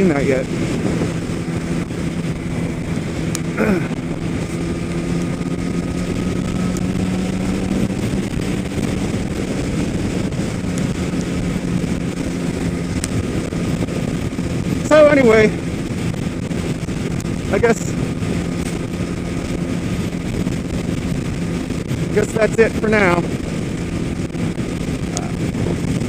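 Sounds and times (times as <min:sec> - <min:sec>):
motorcycle engine cruising: 0:00.0 - 0:26.0
wind rushing over microphone: 0:00.0 - 0:26.0.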